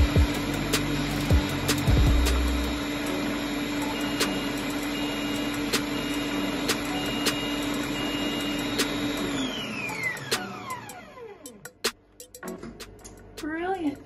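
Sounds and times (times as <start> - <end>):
blender motor whirring: 0.0 - 11.6
motor spinning down whine: 0.0 - 11.7.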